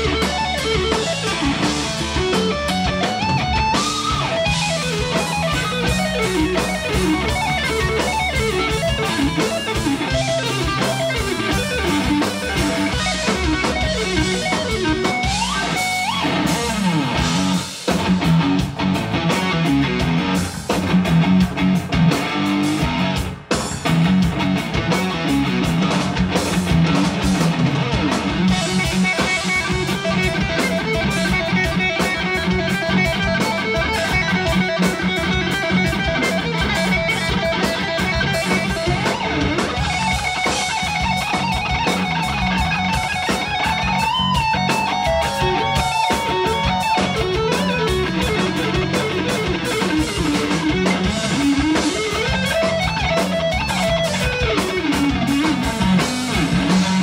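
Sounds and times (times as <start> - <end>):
bass guitar: 0.0 - 57.0
drum kit steady beat: 0.0 - 57.0
electric guitar lead: 0.0 - 57.0.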